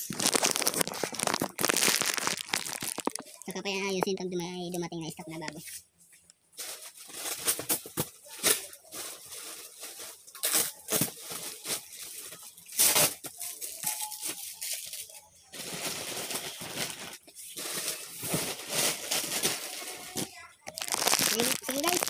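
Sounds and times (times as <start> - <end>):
plastic sacks rustling: 0.0 - 3.6, 6.6 - 22.0.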